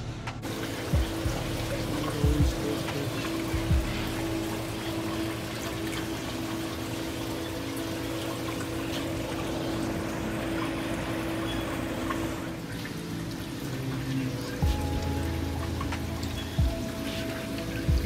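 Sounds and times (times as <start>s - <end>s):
steady hum: 0.0s - 18.0s
aquarium water trickling and splashing: 0.4s - 18.0s.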